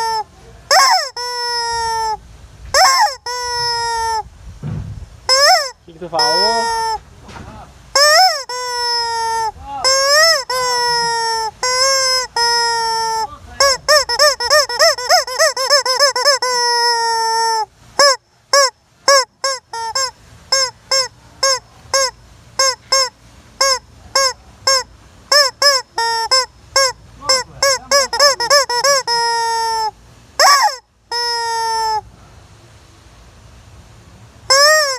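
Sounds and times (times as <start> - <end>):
rubber chicken toy squawking: 0.0 - 4.3, 5.3 - 7.0, 7.9 - 32.0, 34.5 - 34.9.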